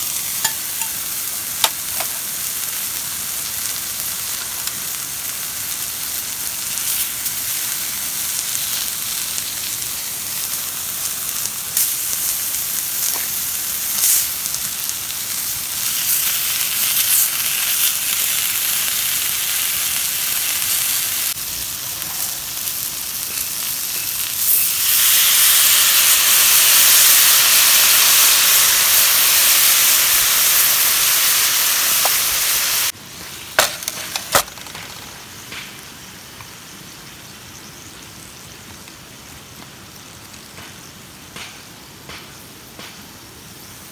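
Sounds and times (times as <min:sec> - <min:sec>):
fire popping and crackling: 0:00.0 - 0:36.6
food sizzling on a griddle: 0:00.0 - 0:43.9.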